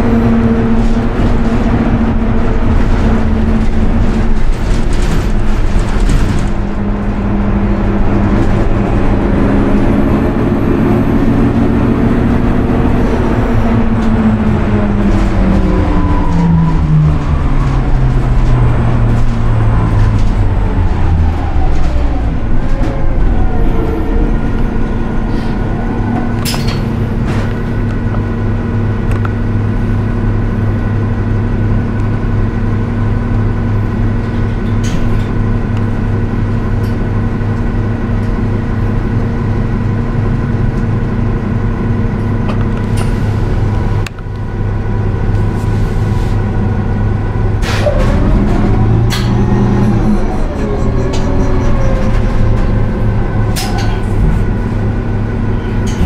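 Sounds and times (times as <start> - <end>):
bus engine humming: 0.0 - 56.0.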